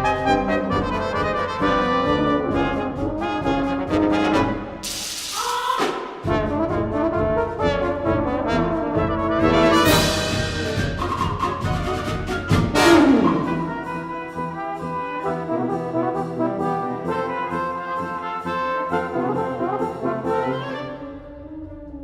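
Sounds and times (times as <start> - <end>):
orchestral music led by brass: 0.0 - 5.3, 6.0 - 22.0.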